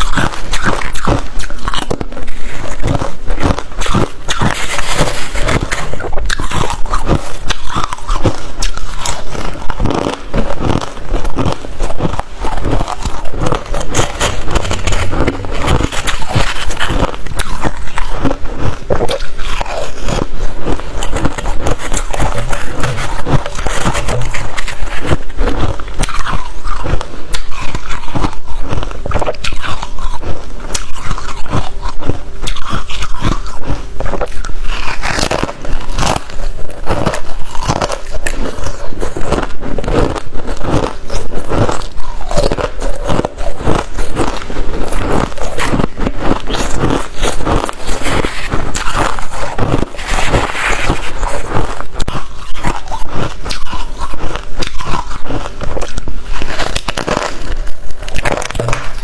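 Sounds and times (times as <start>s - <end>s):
crunching of frost being chewed: 0.0s - 59.0s.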